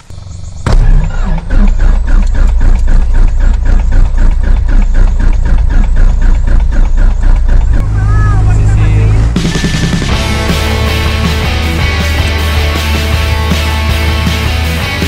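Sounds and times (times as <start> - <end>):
aircraft engine and propeller: 0.0 - 15.0.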